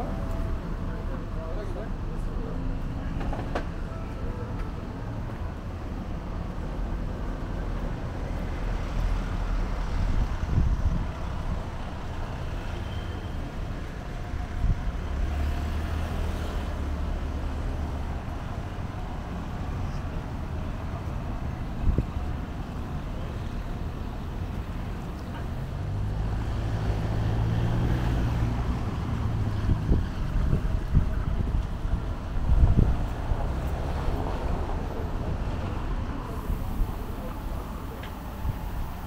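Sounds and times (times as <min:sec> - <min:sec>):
vehicles rumbling by: 0:00.0 - 0:39.0.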